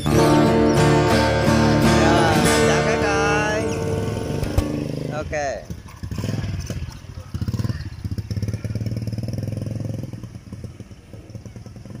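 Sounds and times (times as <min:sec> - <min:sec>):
motorbike engine riding off: 0:00.0 - 0:12.0.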